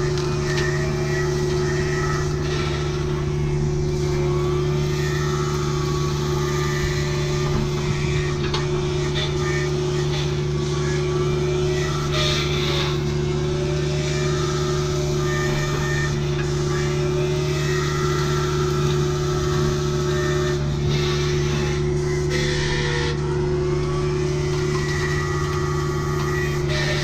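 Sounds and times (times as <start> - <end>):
excavator diesel engine and hydraulics: 0.0 - 27.0.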